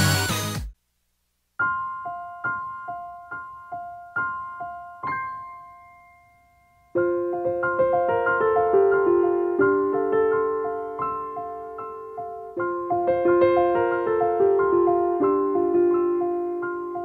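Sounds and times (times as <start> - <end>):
solo piano: 1.6 - 17.0.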